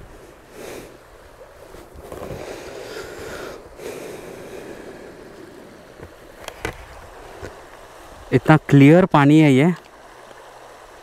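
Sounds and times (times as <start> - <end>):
river running over stones: 0.0 - 11.0.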